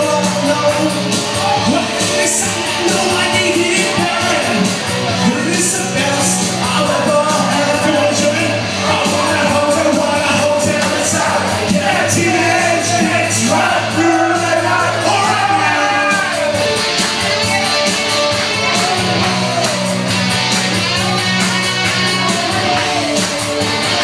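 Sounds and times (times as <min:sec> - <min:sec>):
loud rock music with singing: 0:00.0 - 0:24.0.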